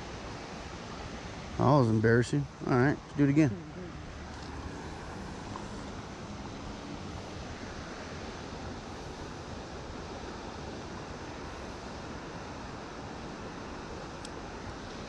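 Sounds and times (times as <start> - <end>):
fast-flowing creek water: 0.0 - 15.0.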